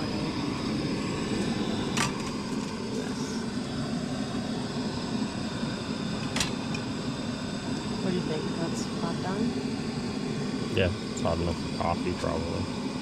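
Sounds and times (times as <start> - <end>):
camp stove burner roaring: 0.0 - 13.0.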